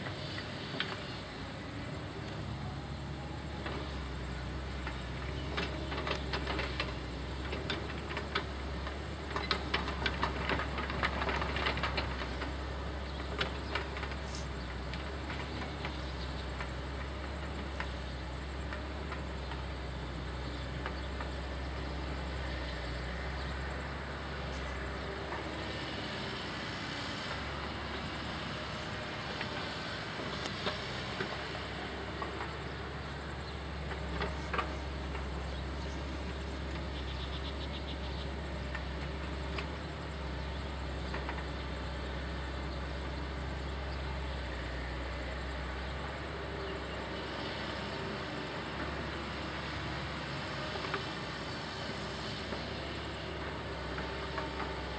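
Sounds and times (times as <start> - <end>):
heavy diesel machinery droning: 0.0 - 54.9.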